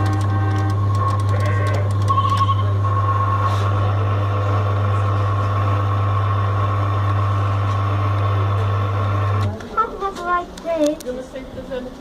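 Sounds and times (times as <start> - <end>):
kiddie ride motor humming: 0.0 - 11.0.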